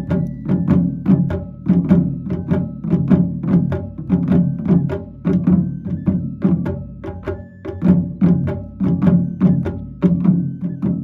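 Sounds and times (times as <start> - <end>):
taiko drums in driving rhythm: 0.0 - 11.0.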